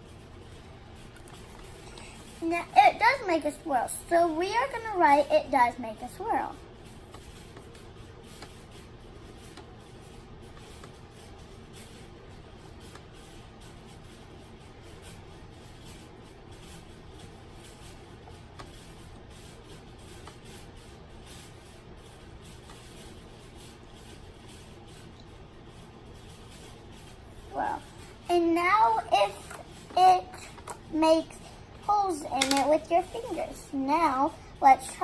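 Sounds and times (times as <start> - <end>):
steady background hiss: 0.0 - 35.0
writing scratching on paper: 4.1 - 35.0.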